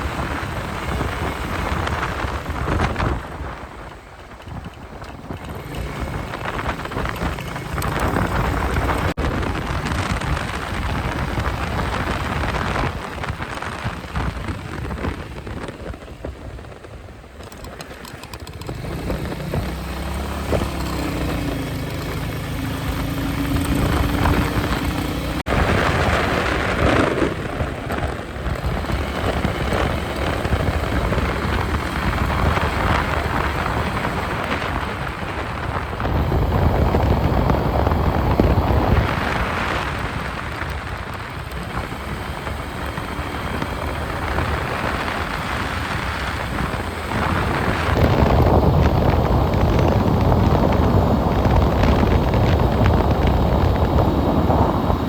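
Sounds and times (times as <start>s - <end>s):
motorcycle engine and exhaust: 0.0s - 55.0s
wind rushing over microphone: 0.0s - 55.0s.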